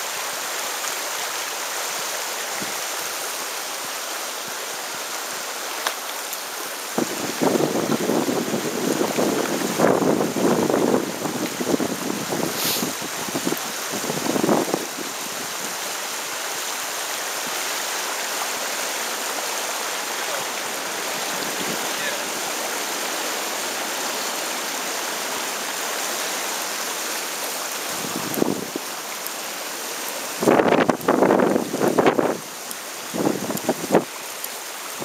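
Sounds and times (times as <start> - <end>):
river rushing over rocks: 0.0 - 35.0.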